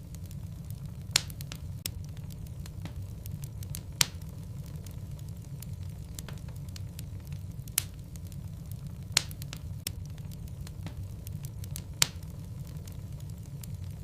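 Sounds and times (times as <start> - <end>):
logs crackling in fireplace: 0.0 - 14.0
steady low rumble: 0.0 - 14.0.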